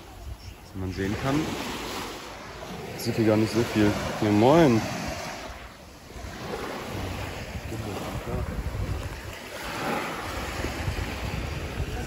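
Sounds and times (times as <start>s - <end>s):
waves washing on beach: 0.0s - 12.0s
wind buffeting microphone: 0.0s - 12.0s.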